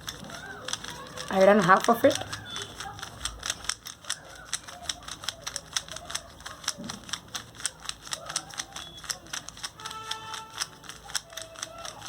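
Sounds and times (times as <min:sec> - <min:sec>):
puzzle cube turning clicks: 0:00.0 - 0:12.0.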